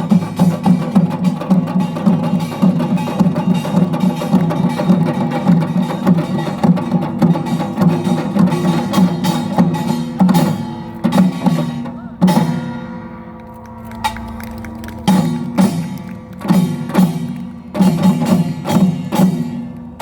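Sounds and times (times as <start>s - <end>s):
drums: 0.0s - 20.0s
gongs: 0.0s - 20.0s.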